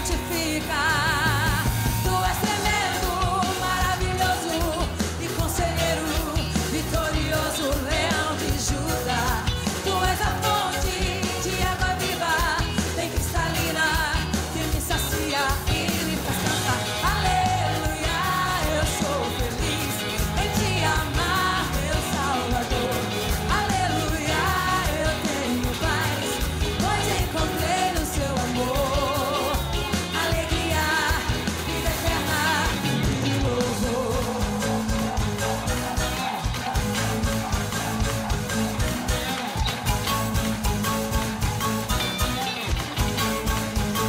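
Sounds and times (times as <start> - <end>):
woman singing: 0.0 - 36.4
drums playing a driving beat: 0.0 - 44.0.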